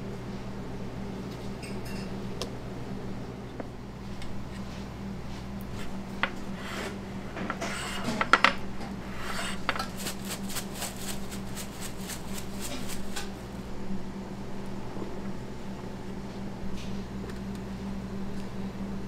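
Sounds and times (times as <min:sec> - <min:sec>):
kitchen hum: 0:00.0 - 0:19.0.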